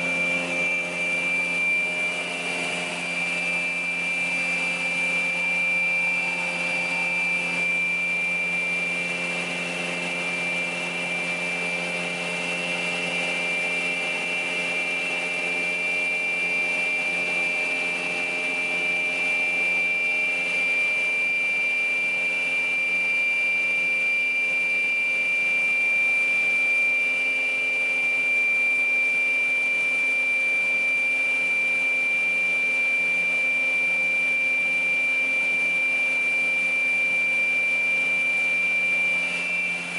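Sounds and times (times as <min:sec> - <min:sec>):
saw motor humming with whine: 0:00.0 - 0:39.9.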